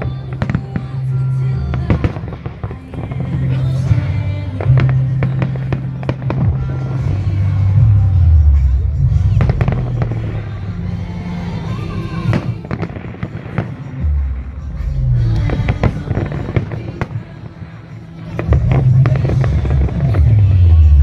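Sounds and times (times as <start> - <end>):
fireworks booming: 0.0 - 21.0
fireworks crackling: 0.0 - 21.0.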